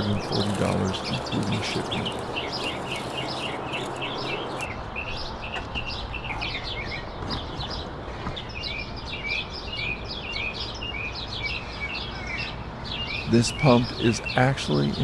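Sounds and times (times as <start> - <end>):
small birds chirping: 0.0 - 15.0
steady background noise: 0.0 - 15.0.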